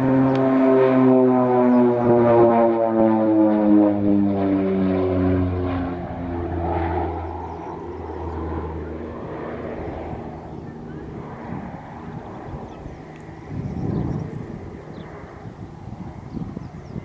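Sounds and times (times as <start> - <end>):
turboprop aircraft droning fly-by: 0.0 - 17.0.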